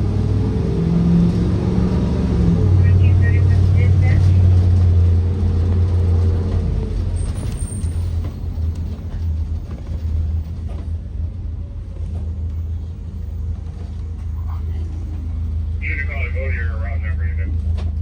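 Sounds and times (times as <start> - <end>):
bus engine drone: 0.0 - 18.0.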